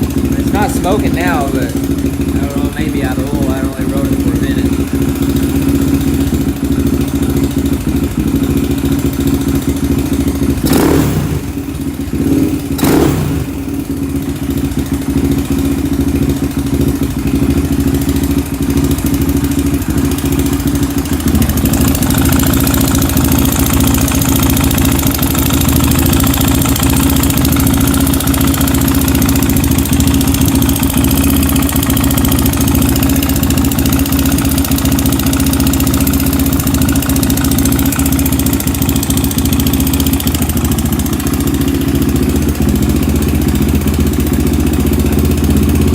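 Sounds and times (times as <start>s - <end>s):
engine idling and revving: 0.0s - 45.9s
engine ticking: 0.0s - 45.9s.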